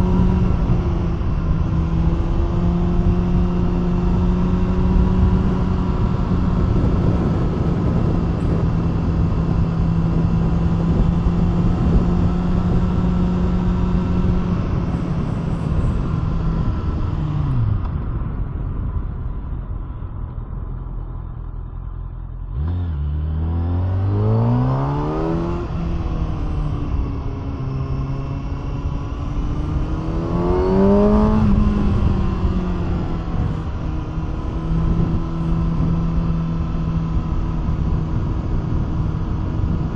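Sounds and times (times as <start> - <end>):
motorcycle engine revving: 0.0 - 18.0, 21.6 - 39.9.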